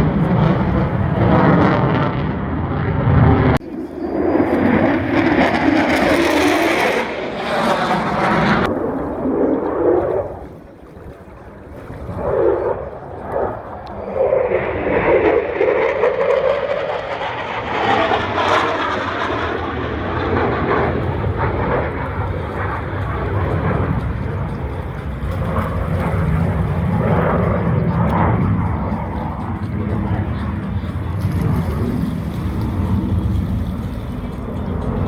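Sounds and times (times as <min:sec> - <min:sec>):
aircraft engine flying past: 0:00.0 - 0:35.0.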